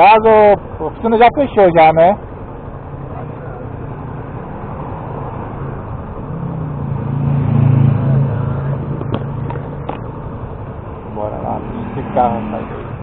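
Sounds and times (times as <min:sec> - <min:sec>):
motor vehicle engine: 0:00.0 - 0:13.0
street noise: 0:00.0 - 0:13.0.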